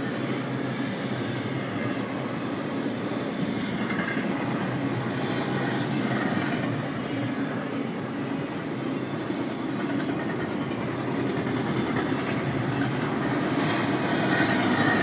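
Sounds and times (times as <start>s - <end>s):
train wheels rolling on rail: 0.0s - 15.0s.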